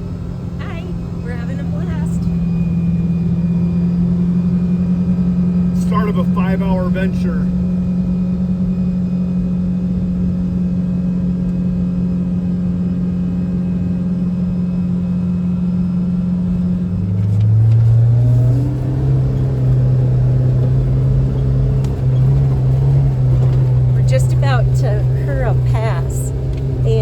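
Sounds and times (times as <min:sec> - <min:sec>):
vehicle engine drone in cab: 0:00.0 - 0:27.0.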